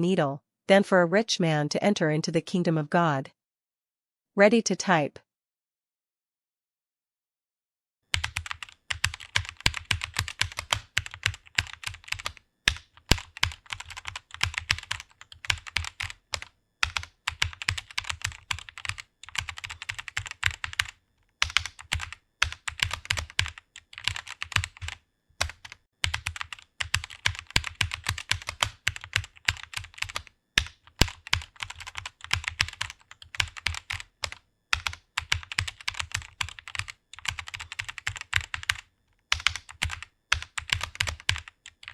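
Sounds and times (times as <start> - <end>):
fast typing on keyboard: 8.1 - 41.9.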